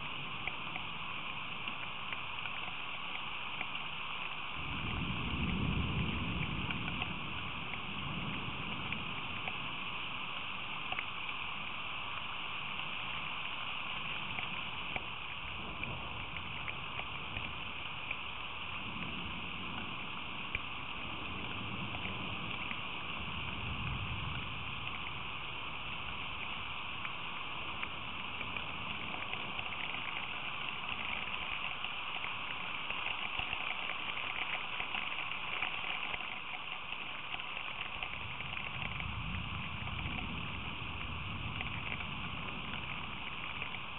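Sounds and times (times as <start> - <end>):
raindrop ticks: 0.0 - 43.9
steady rain hissing: 0.0 - 43.9.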